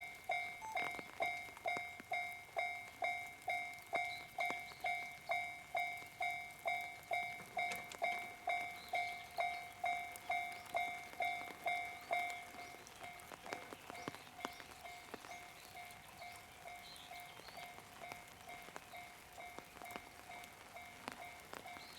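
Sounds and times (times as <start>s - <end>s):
level crossing warning bell: 0.0s - 21.9s.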